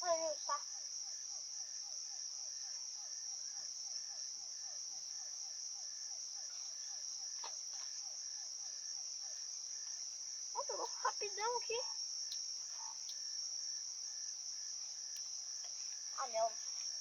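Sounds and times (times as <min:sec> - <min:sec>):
crickets trilling: 0:00.0 - 0:17.0
faint insect pulse: 0:00.0 - 0:17.0.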